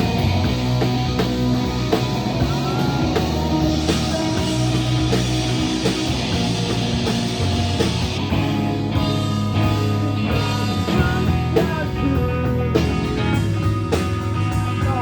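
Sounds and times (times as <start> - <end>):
bass guitar: 0.0 - 15.0
drum kit beat: 0.0 - 15.0
electric guitars: 0.0 - 15.0.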